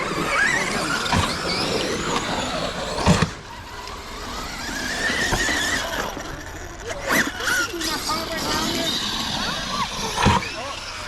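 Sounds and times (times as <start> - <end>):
toy truck thumping ground: 0.0 - 10.6
electric motors whining: 0.0 - 11.0.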